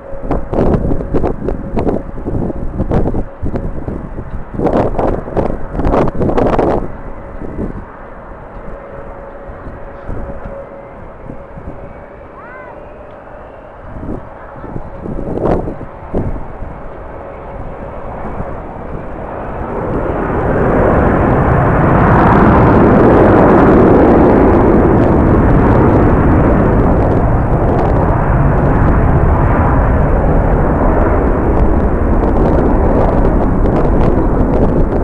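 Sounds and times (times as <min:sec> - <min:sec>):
jet engines rushing rumble: 0:00.0 - 0:35.0.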